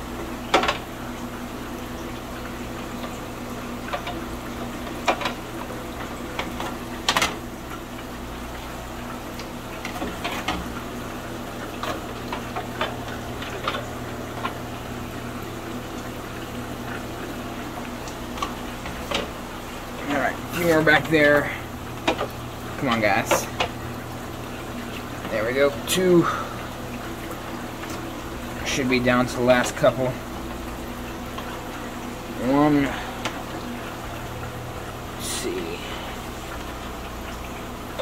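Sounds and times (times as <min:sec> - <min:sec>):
aquarium water bubbling: 0:00.0 - 0:38.0
pump hum: 0:00.0 - 0:38.0.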